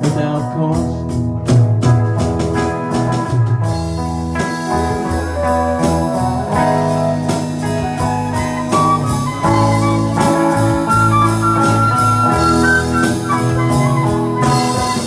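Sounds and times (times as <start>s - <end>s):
bass guitar: 0.0s - 15.0s
drum hits: 0.0s - 15.0s.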